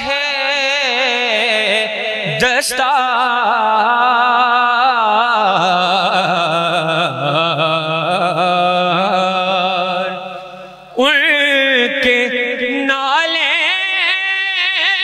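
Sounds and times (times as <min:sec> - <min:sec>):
man chanting devotional poem: 0:00.0 - 0:15.0.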